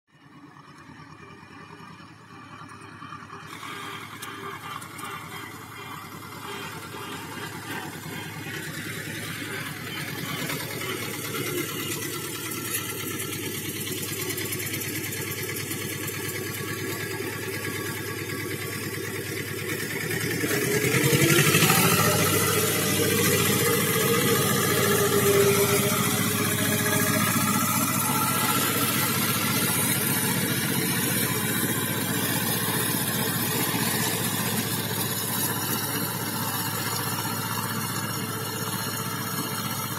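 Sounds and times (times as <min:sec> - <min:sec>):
tractor diesel engine running: 0:00.1 - 0:39.9
flail mulcher cutting grass: 0:03.5 - 0:39.9.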